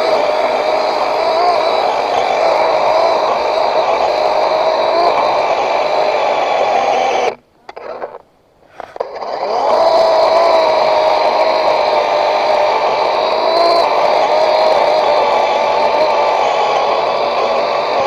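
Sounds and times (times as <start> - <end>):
chainsaw engine revving: 0.0 - 8.2, 8.8 - 18.0.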